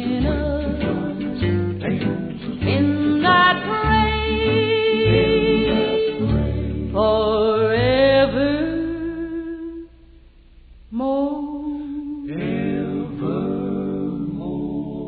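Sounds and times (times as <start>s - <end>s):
country gospel music with guitar: 0.0s - 9.9s, 11.7s - 15.0s.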